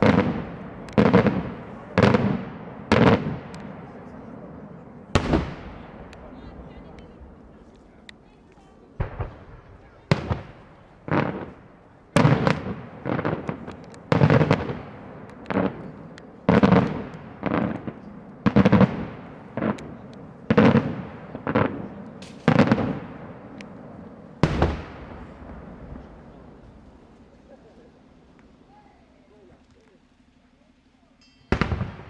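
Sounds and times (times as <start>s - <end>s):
fireworks bangs with echo: 0.0s - 29.6s, 31.5s - 32.0s.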